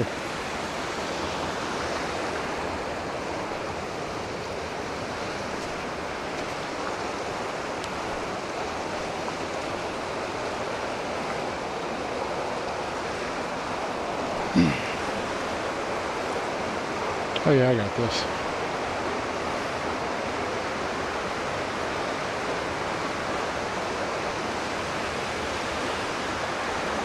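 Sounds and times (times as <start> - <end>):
creek water rushing over rocks: 0.0 - 27.0.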